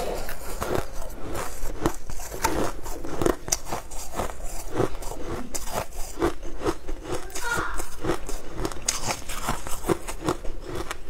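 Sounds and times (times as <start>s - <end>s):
shaved ice crunching: 0.0s - 10.9s.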